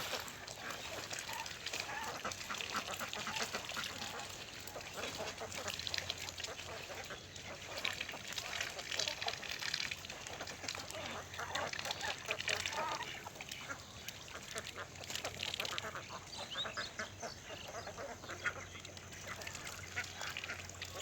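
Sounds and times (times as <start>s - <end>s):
ducks quacking: 0.0s - 9.4s, 10.2s - 21.0s.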